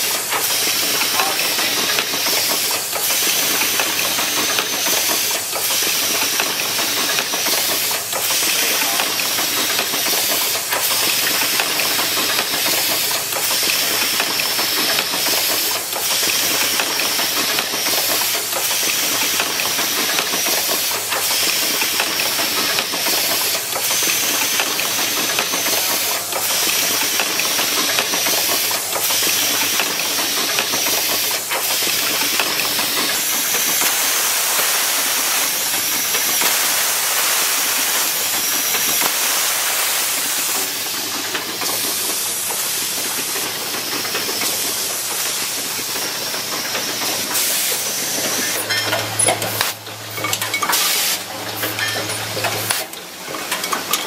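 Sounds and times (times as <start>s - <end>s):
machine hissing: 0.0s - 49.9s, 50.6s - 54.0s.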